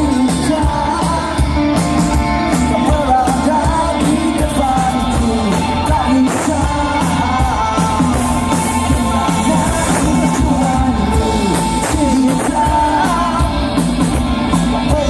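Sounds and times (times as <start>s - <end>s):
drums hitting steadily: 0.0s - 15.0s
live band playing: 0.0s - 15.0s
person singing: 0.0s - 15.0s.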